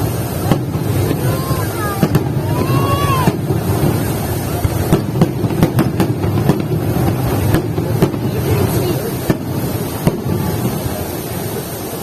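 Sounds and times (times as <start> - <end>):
fireworks bangs: 0.0 - 12.0
steady background noise: 0.0 - 12.0.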